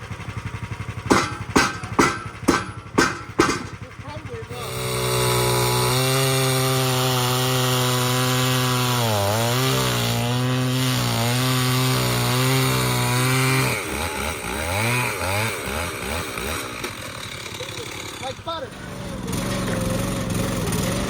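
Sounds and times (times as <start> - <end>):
chainsaw cutting wood: 0.8 - 21.0.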